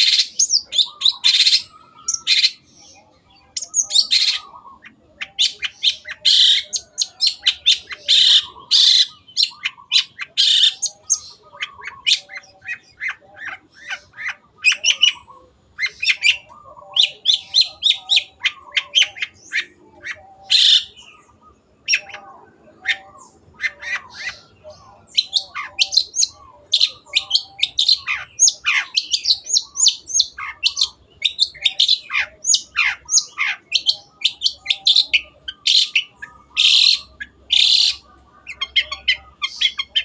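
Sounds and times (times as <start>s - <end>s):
harsh scratchy bird song: 0.0s - 40.0s.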